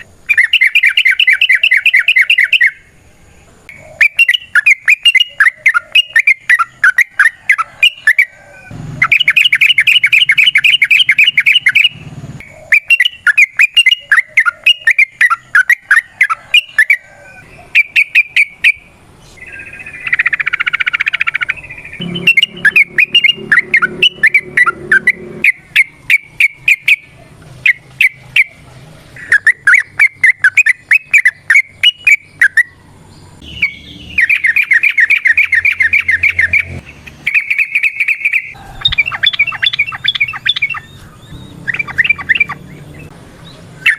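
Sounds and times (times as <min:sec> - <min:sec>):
bulbul singing: 0:00.0 - 0:43.9.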